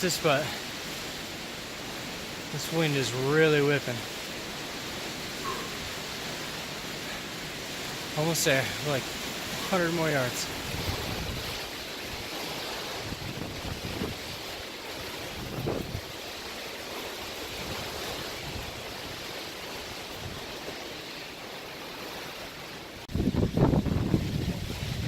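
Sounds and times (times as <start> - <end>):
gusting wind buffeting microphone: 0.0 - 25.0.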